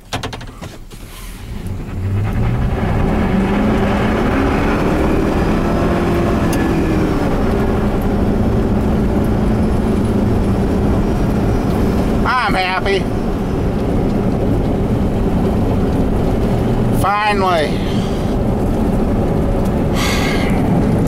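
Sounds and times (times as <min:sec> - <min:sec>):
truck engine accelerating: 0:00.9 - 0:21.0.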